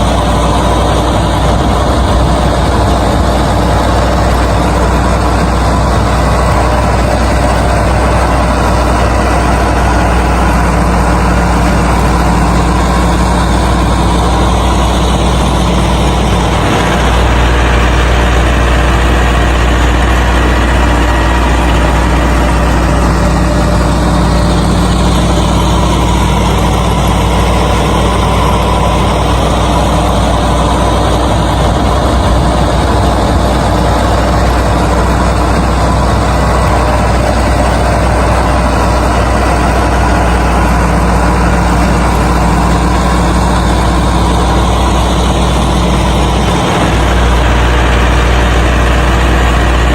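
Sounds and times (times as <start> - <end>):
engine running with low drone: 0.0 - 49.9.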